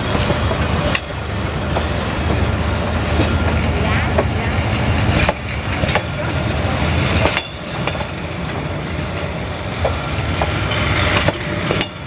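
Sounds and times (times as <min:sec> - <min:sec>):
train rumbling past: 0:00.0 - 0:12.0
wheels clacking over rail joints: 0:00.0 - 0:12.0.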